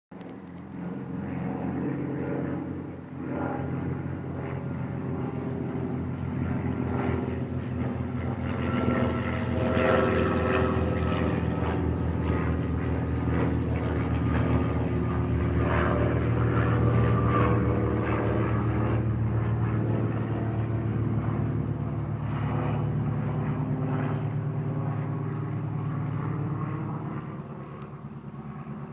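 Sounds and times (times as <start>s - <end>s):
propeller aircraft engine: 0.1s - 28.9s.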